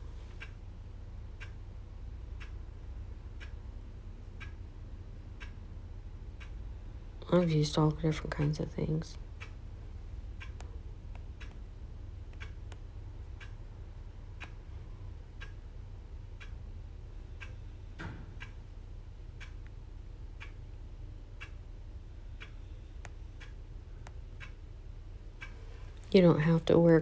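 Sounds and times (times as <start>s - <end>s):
clock ticking: 0.0s - 27.0s
low hum: 0.0s - 27.0s.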